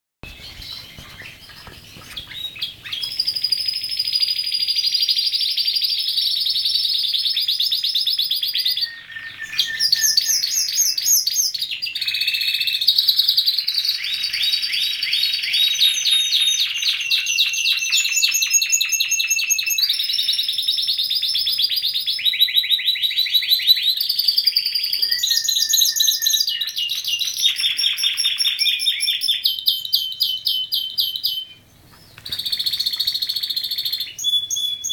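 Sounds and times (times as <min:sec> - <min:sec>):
canary singing rapid trills: 0:00.2 - 0:34.9.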